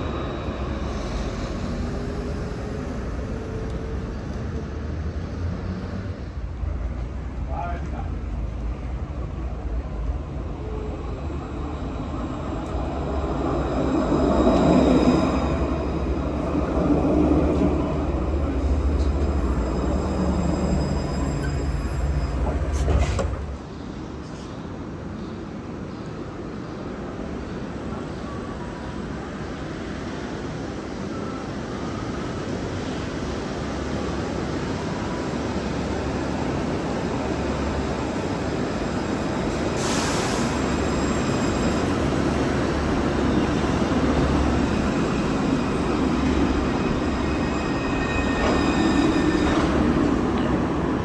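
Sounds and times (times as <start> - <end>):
tram rumbling along: 0.0 - 51.0.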